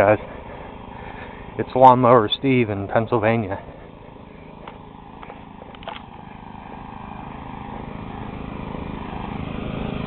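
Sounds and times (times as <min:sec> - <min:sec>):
riding mower engine running: 0:00.0 - 0:10.0.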